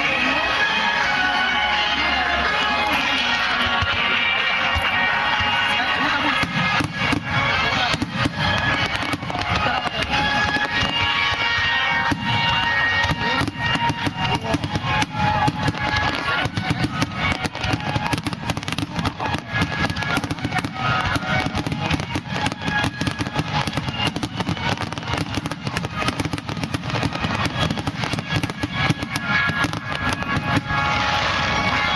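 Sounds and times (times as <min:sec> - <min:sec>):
fireworks bangs and crackles: 0:00.0 - 0:31.9
music playing: 0:00.0 - 0:31.9.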